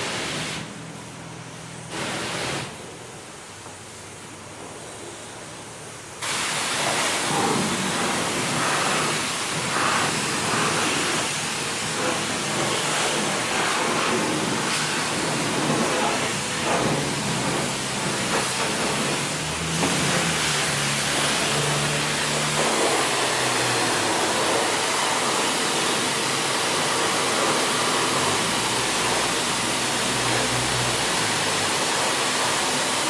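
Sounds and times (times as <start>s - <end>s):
high-pressure water spray hissing: 0.0s - 3.0s, 5.1s - 33.0s.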